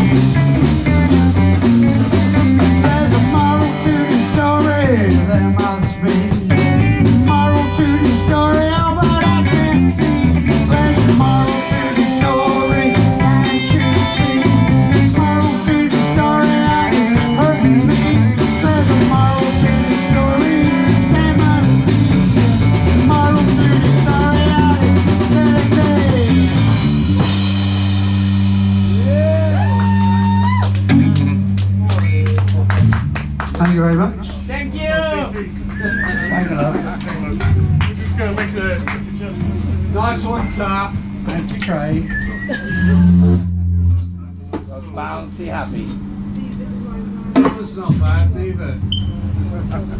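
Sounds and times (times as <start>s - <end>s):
drum kit: 0.0s - 33.7s, 35.6s - 46.3s, 47.2s - 49.9s
electric guitar: 0.0s - 44.8s
bass guitar: 0.0s - 49.9s.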